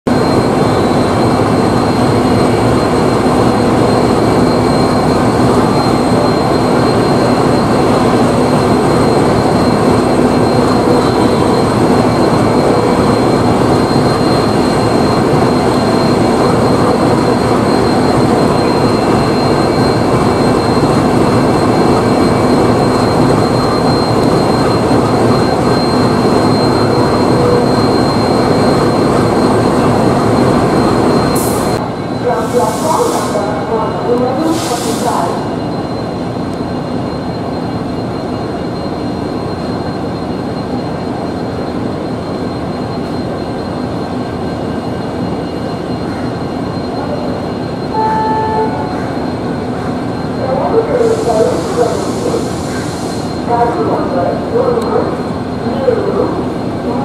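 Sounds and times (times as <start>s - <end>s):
constant high whine: 0.1s - 57.0s
diesel generator drone: 0.1s - 57.0s.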